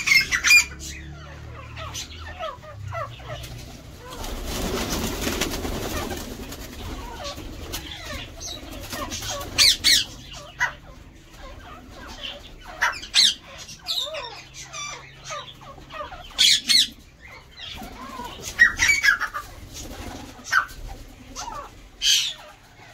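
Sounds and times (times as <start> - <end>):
cage birds chirping and squawking: 0.0 - 22.9
soft bird chatter: 0.0 - 22.9.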